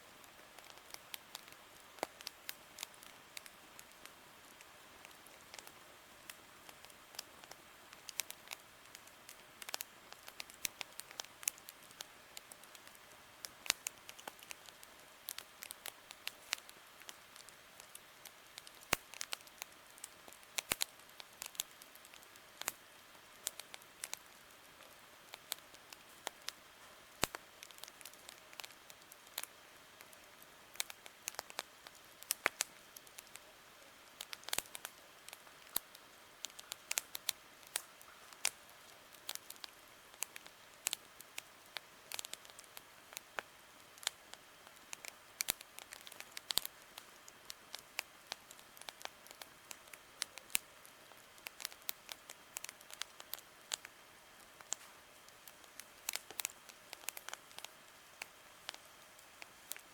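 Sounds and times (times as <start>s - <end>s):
faint steady hiss: 0.0s - 59.9s
campfire crackling and popping: 0.1s - 59.9s.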